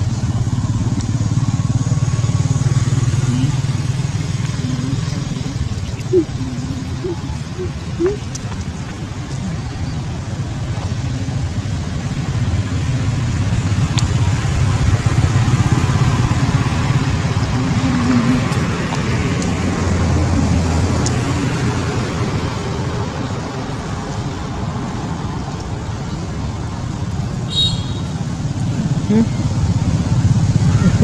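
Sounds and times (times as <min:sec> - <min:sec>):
low rumble of motor traffic: 0:00.0 - 0:31.0.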